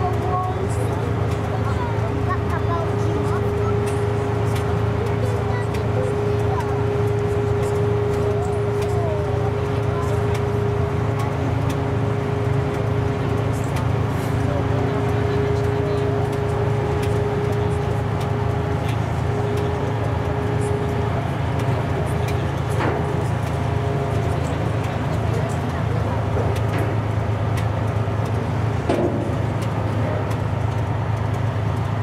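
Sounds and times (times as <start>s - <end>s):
diesel engine droning: 0.0s - 32.0s
steady mechanical whine: 0.0s - 32.0s.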